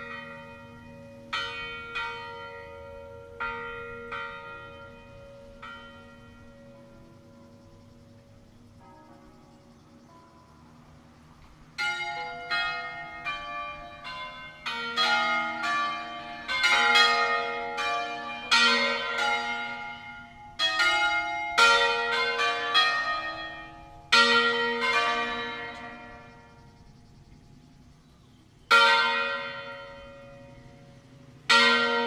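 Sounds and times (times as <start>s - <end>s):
swinging church bells ringing: 0.0s - 32.0s.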